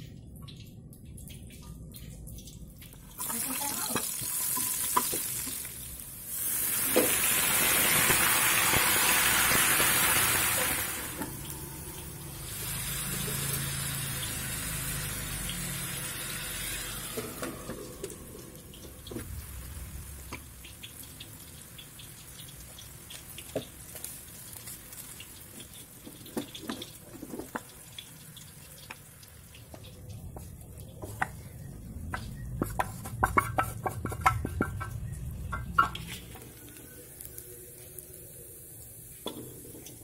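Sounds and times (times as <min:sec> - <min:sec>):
chicken frying in oil: 0:00.0 - 0:40.0
vegetables simmering in pan: 0:02.9 - 0:40.0.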